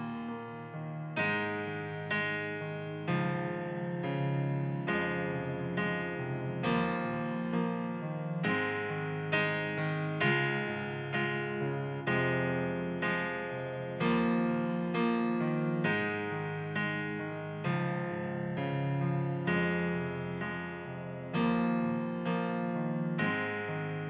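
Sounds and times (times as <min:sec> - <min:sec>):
piano chords on keyboard: 0:00.0 - 0:24.0.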